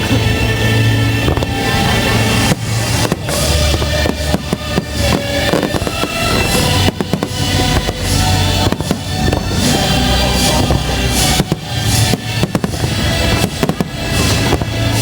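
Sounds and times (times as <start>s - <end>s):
fireworks bursting: 0.0s - 15.0s
loud music with drum beat: 0.0s - 15.0s.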